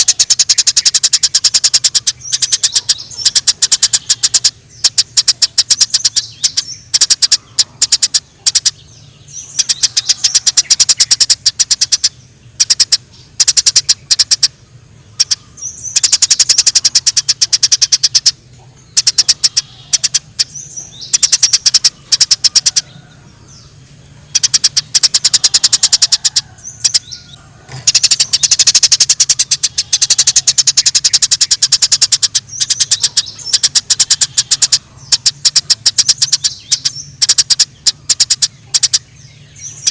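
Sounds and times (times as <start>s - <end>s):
faint low hum: 0.0s - 39.9s
sparrows chirping rapidly: 0.0s - 39.9s.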